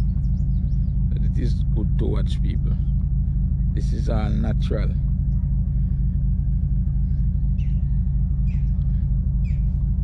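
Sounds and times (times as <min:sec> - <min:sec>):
faint bird chirps: 0:00.0 - 0:10.0
steady low rumble: 0:00.0 - 0:10.0.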